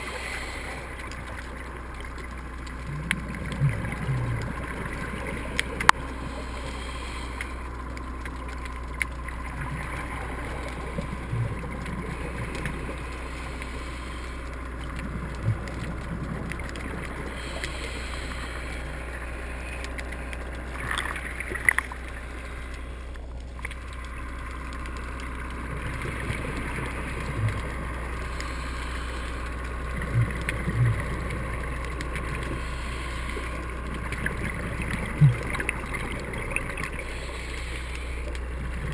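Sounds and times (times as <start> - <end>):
underwater rumble and hiss: 0.0 - 38.9.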